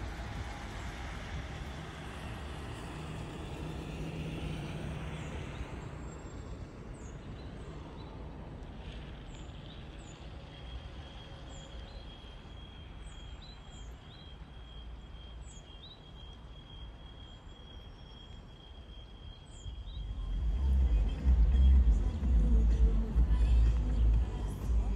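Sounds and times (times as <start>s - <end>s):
distant vehicles rumbling: 0.0s - 24.9s.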